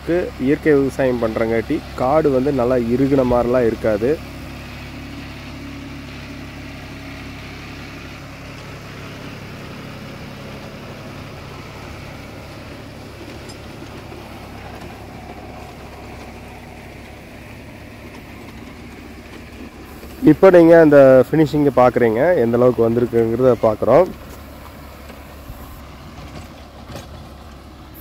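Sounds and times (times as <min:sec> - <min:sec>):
tiller blades churning soil: 0:00.0 - 0:28.0
tractor diesel engine running: 0:00.0 - 0:28.0.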